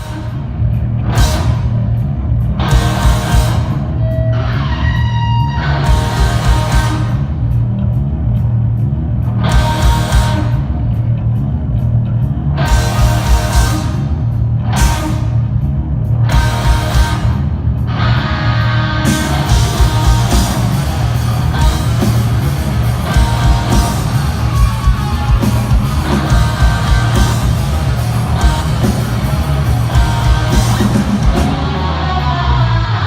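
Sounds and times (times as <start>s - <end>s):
electric guitar: 0.0s - 33.0s
heavy rock band playing: 0.0s - 33.0s.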